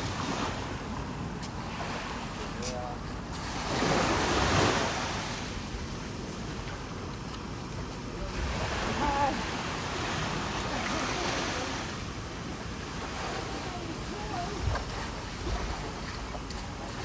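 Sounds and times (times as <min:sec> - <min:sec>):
small waves breaking on beach: 0:00.0 - 0:06.8, 0:08.2 - 0:17.0.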